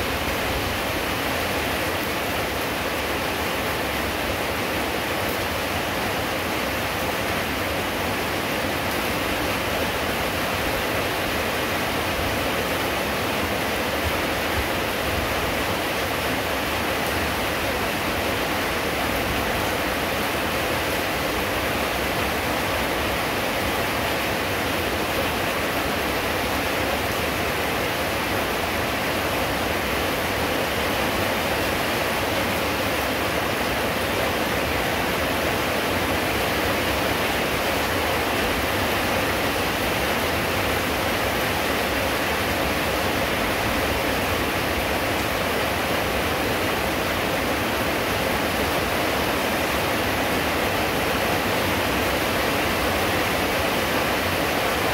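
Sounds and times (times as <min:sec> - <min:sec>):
rain falling steadily: 0:00.0 - 0:54.9.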